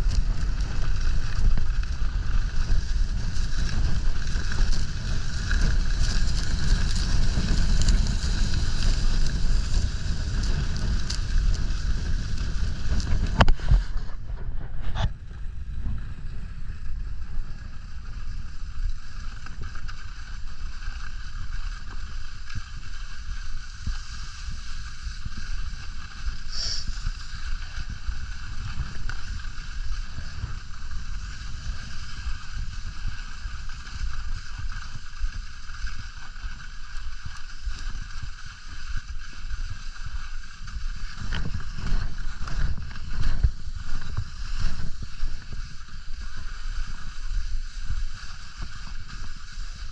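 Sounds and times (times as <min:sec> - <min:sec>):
skis sliding over snow: 0:00.0 - 0:49.9
wind rumbling on microphone: 0:00.0 - 0:49.9.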